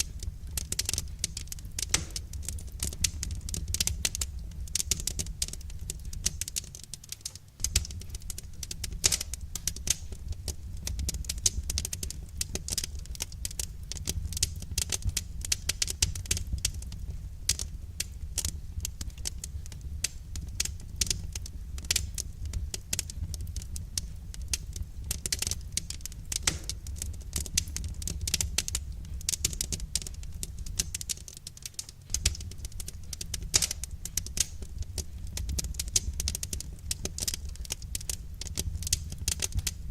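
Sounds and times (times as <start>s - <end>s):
low rumble of flames: 0.0s - 39.9s
wood fire pops and snaps: 0.0s - 39.9s.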